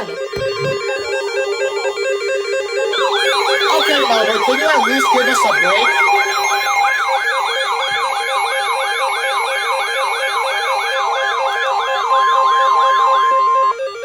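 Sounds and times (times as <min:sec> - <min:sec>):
electronic alert sirens: 0:00.0 - 0:14.0.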